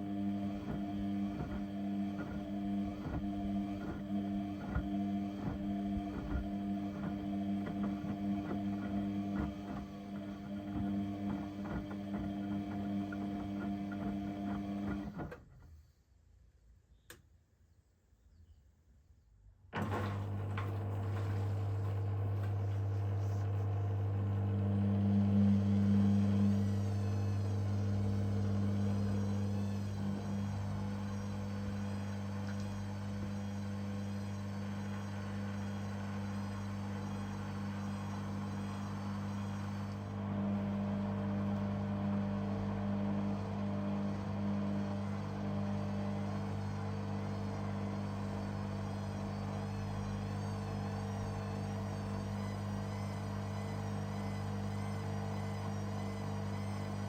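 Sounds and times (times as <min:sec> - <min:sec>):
washing machine hum: 0:00.0 - 0:15.4, 0:19.8 - 0:57.0.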